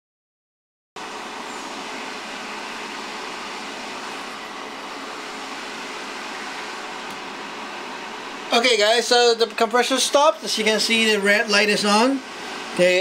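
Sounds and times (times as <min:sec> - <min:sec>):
cooling fan whirring: 0:01.0 - 0:13.0.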